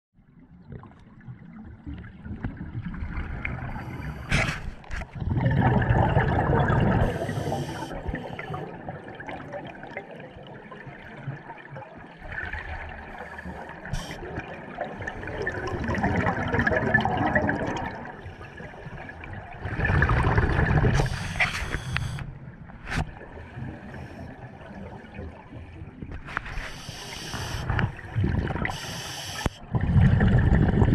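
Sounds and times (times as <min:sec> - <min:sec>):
underwater exhaled bubbles gurgling: 0:00.2 - 0:30.9.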